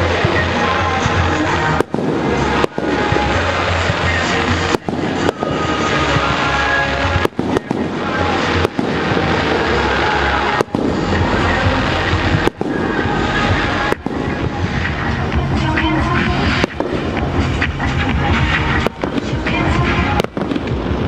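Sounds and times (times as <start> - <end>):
fireworks booming and crackling: 0.0 - 21.0.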